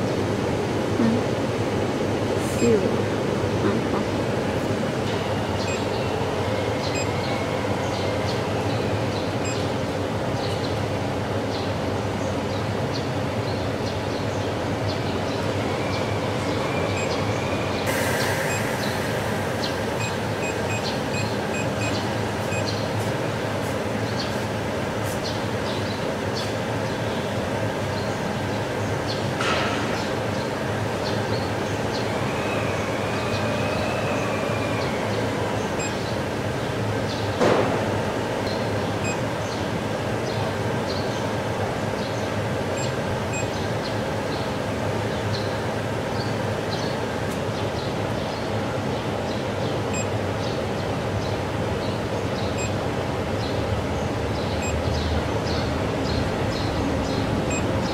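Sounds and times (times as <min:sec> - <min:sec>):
cooling system hum: 0:00.0 - 0:29.5, 0:30.1 - 0:57.9.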